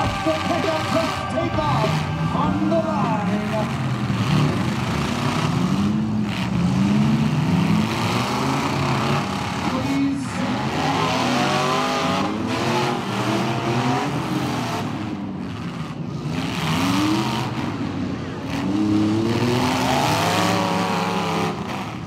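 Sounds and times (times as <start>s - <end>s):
truck engines revving: 0.0s - 22.0s.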